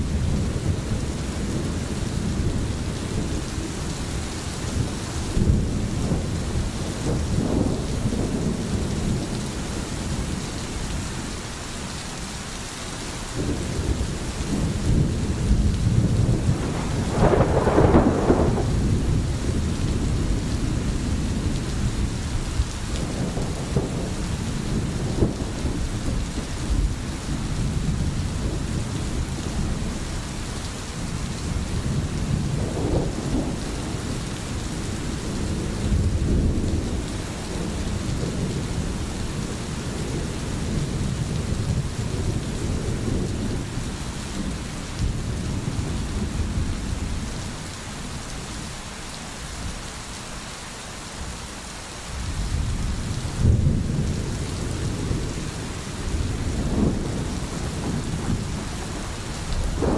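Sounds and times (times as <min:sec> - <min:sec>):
rolling thunder: 0:00.0 - 0:11.0, 0:13.4 - 0:30.3, 0:31.0 - 0:47.6, 0:52.2 - 0:59.9
steady rain: 0:00.0 - 0:59.9.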